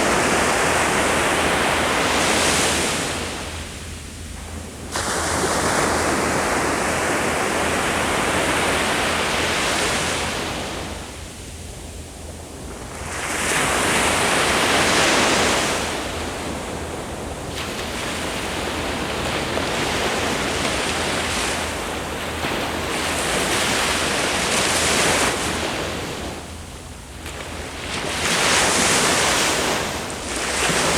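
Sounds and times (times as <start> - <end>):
ocean waves breaking on shore: 0.0 - 11.5, 12.3 - 30.9.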